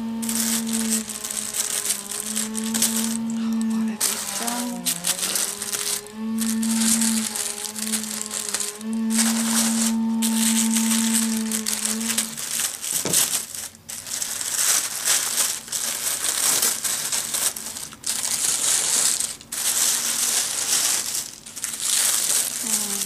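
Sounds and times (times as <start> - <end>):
steady hum: 0.0 - 23.0
tissue paper crinkling: 0.0 - 23.0.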